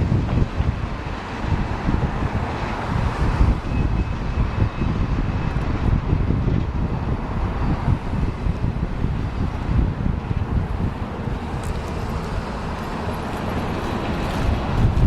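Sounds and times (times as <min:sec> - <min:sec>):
train rumbling past: 0:00.0 - 0:15.0
wind buffeting microphone: 0:00.0 - 0:15.0.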